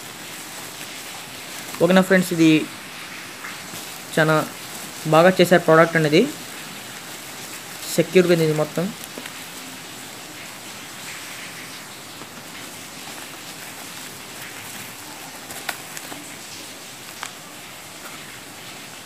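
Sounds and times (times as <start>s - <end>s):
bubble wrap crackling: 0.0s - 19.0s
rain falling: 0.0s - 19.0s.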